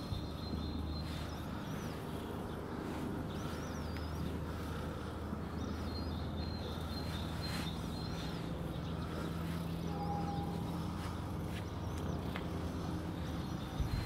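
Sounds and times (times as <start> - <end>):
low outdoor hum: 0.0 - 14.0
small bird chirping: 0.0 - 14.0.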